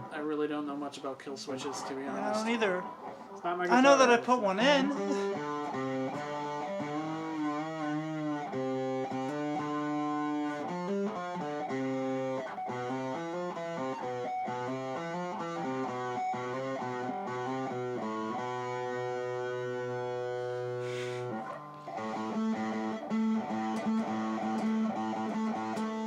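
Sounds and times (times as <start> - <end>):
electric guitar playing: 1.7 - 26.0.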